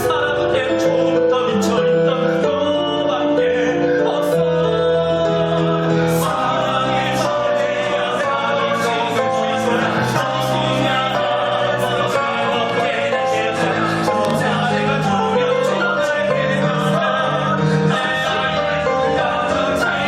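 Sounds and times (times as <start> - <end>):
voices singing in chorus: 0.0 - 20.0.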